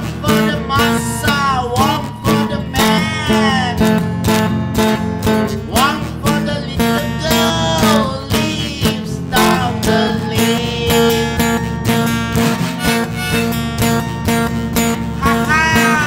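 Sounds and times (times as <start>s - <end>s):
acoustic guitar strumming: 0.0s - 16.0s
sliding melody line: 0.1s - 16.0s.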